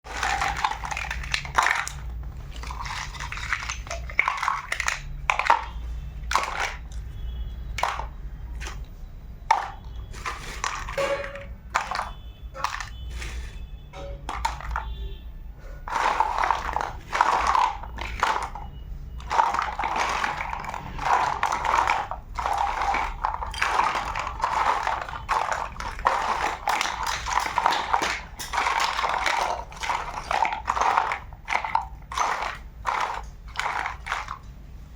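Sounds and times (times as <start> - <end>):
plastic pieces clicking: 0.1 - 7.1, 7.7 - 14.9, 15.8 - 34.5.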